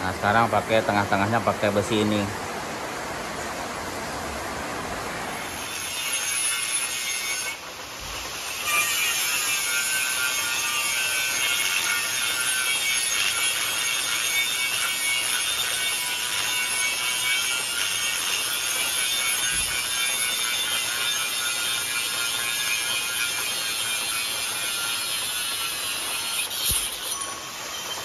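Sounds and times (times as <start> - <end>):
angle grinder screeching on metal: 5.4 - 28.0.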